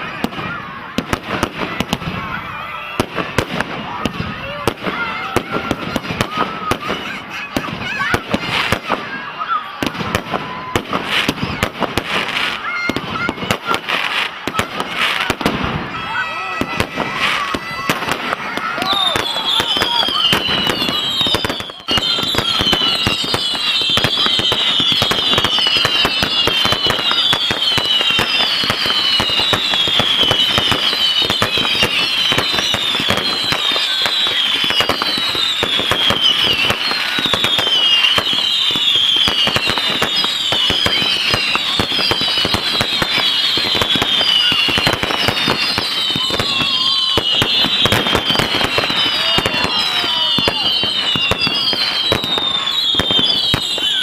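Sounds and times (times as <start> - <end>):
firework bangs and crackling: 0.0 - 54.0
firework whistles sweeping down: 0.0 - 54.0.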